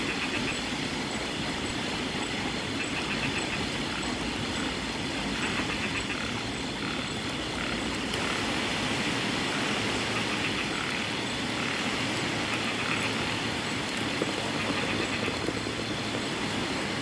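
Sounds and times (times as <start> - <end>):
steady rain: 0.0 - 17.0
wind through palm fronds: 0.0 - 17.0.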